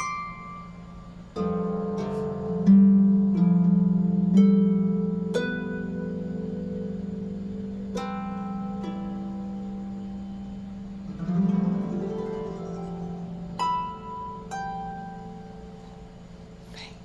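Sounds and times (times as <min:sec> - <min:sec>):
plucked string notes: 0:00.0 - 0:16.6.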